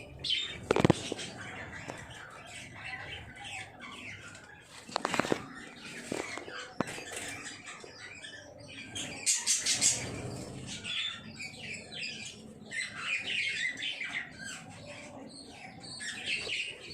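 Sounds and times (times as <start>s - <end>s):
lovebirds chattering: 0.0s - 16.9s.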